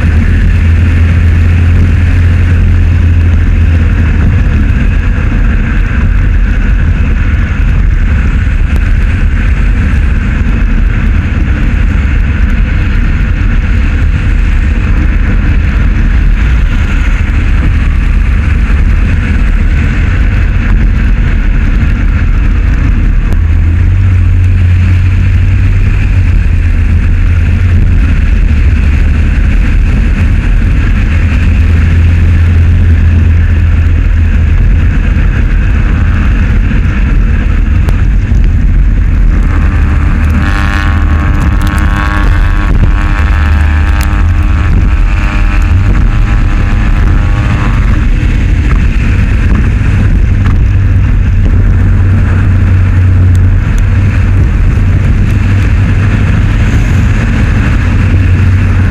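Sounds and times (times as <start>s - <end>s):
car road noise rumble: 0.0s - 58.9s.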